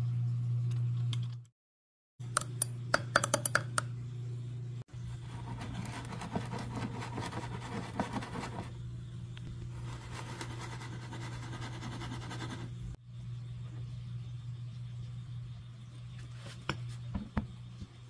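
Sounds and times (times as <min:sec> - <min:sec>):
steady low hum: 0:02.2 - 0:18.0.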